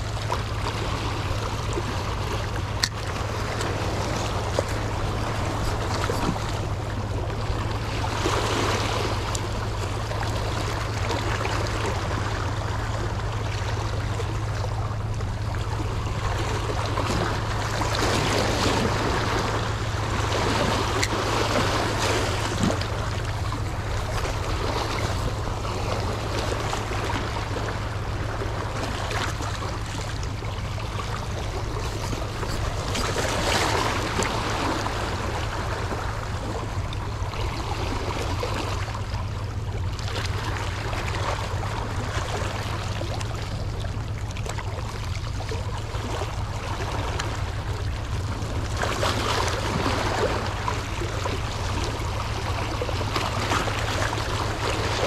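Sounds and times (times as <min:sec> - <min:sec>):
sea water lapping: 0:00.0 - 0:55.0
steady low hum: 0:00.0 - 0:55.0.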